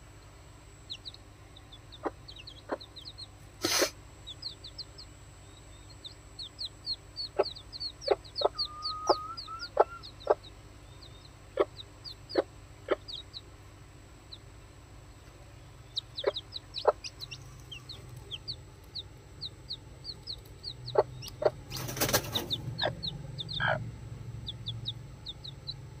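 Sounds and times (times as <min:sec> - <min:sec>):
chicks peeping: 0:00.8 - 0:13.5, 0:14.2 - 0:26.0
hen clucking: 0:00.9 - 0:05.0, 0:06.0 - 0:13.4, 0:15.9 - 0:26.0.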